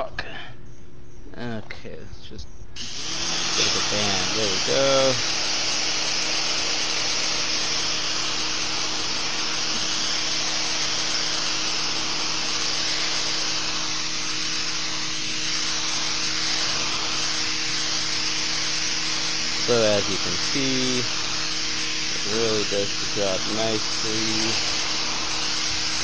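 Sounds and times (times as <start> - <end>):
pressure washer motor humming: 2.8 - 26.0
water jet hissing on concrete: 2.8 - 26.0.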